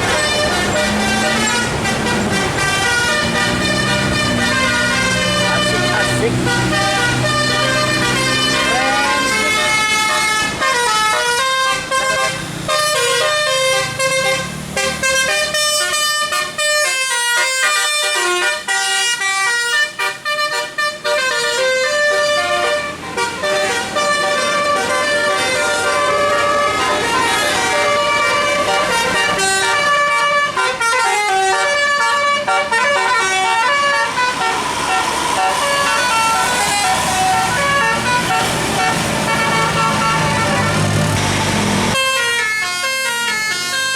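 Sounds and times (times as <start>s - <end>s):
musical bus air horn: 0.0s - 43.9s.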